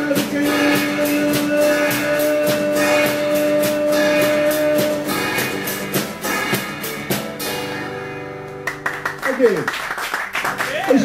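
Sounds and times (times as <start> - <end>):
acoustic guitar strumming: 0.0 - 9.4
drum kit beat: 0.0 - 9.6.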